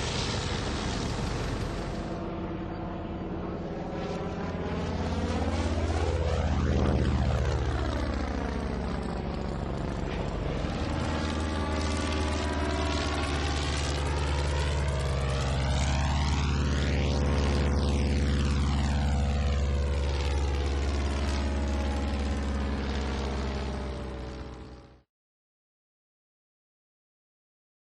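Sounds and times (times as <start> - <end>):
propeller aircraft engine droning: 0.0 - 25.1.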